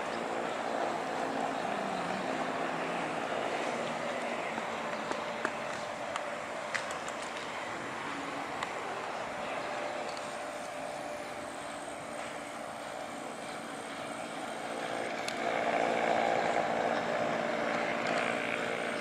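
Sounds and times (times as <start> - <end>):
turboprop airliner engines droning: 0.0 - 19.0.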